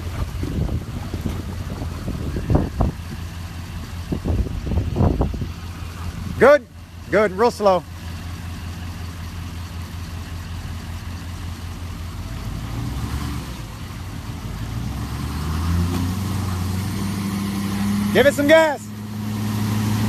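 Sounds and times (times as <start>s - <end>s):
truck engine under load: 0.0s - 20.0s.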